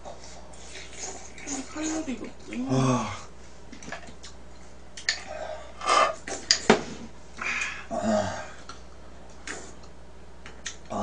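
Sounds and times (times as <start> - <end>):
soft eating noises: 0.0 - 6.7, 7.4 - 11.0.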